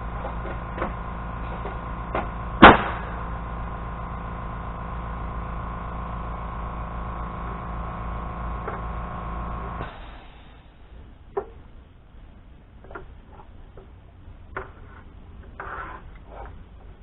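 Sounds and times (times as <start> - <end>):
motor hum with whining tone: 0.0 - 17.0.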